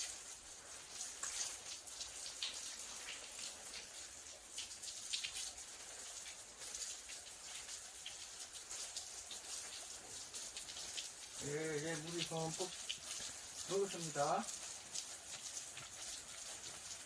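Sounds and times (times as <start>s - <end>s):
water from hose spattering: 0.0s - 17.0s.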